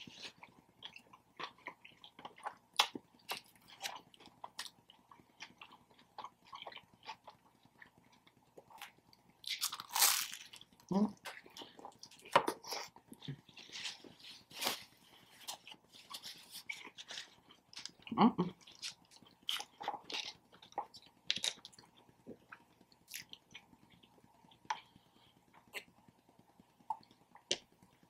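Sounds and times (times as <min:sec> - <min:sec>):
chewing and crunching sandwich: 0:00.0 - 0:28.0.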